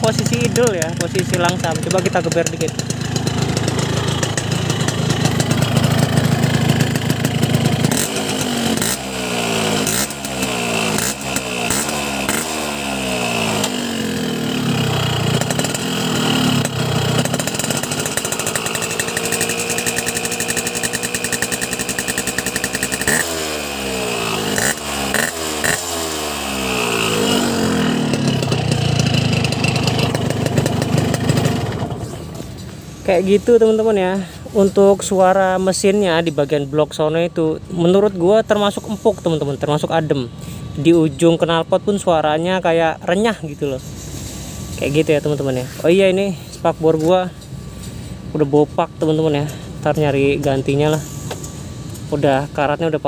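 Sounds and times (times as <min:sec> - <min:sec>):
motorcycle engine idling and revving: 0:00.0 - 0:53.0.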